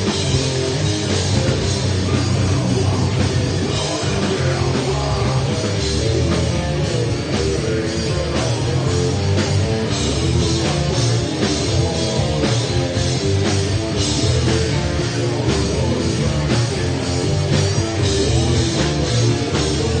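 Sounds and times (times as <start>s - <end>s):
electric guitar: 0.0s - 20.0s
heavy metal band playing live: 0.0s - 20.0s.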